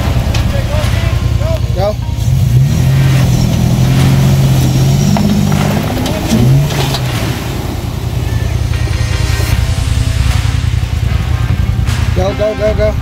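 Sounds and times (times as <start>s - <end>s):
truck engine pulling under load: 0.0s - 12.3s.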